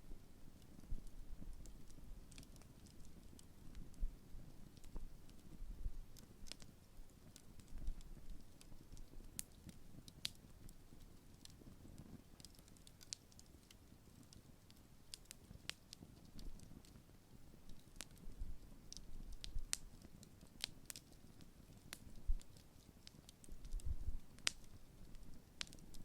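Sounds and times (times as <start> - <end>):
bonfire crackling and popping: 0.2 - 26.0.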